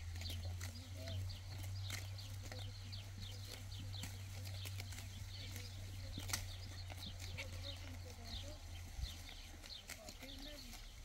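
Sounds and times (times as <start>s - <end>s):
sheep cropping grass and chewing: 0.0s - 11.0s
small birds chirping: 0.0s - 11.0s.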